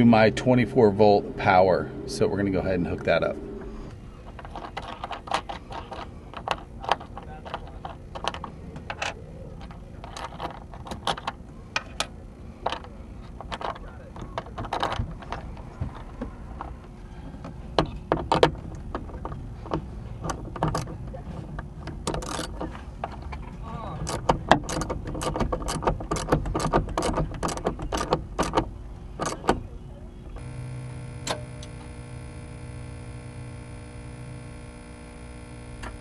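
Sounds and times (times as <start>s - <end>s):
faint steady hum: 0.0s - 25.0s, 27.2s - 36.0s.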